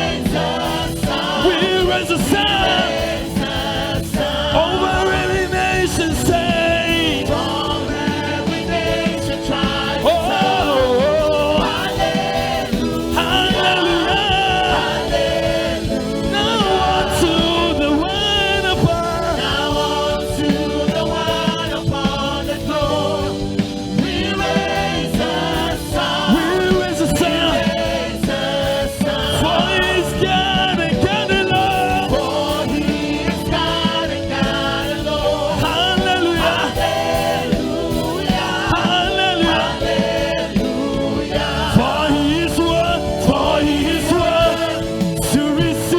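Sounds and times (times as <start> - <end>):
band accompaniment: 0.0 - 45.9
group of voices singing: 0.0 - 45.9.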